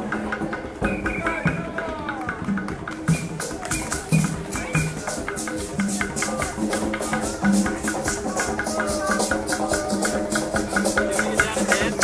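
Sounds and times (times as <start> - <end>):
hand drums: 0.0 - 12.0.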